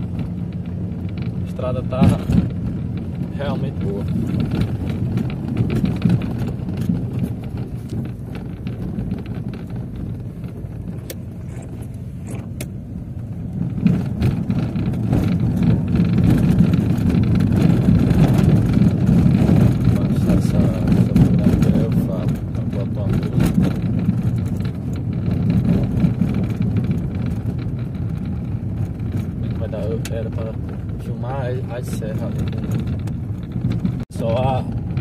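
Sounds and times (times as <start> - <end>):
car engine and tyres rumbling: 0.0 - 35.0
light clicks and rattles: 0.0 - 35.0.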